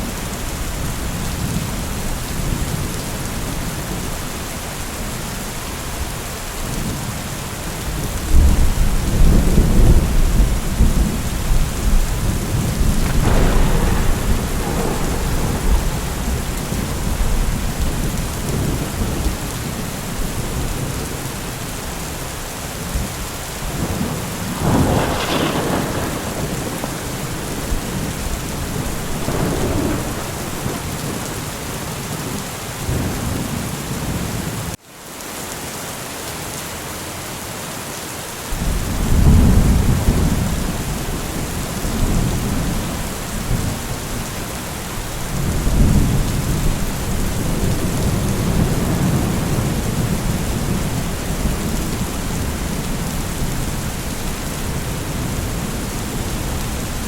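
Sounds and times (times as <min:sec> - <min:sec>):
rain pouring: 0:00.0 - 0:57.0
thunder rumbling: 0:06.7 - 0:34.8, 0:38.5 - 0:57.0.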